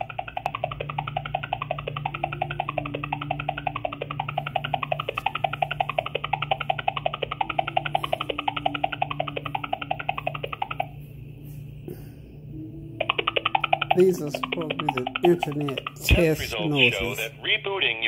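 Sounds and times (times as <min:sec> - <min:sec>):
tinny plucked hold music: 0:00.0 - 0:11.1, 0:12.5 - 0:17.2.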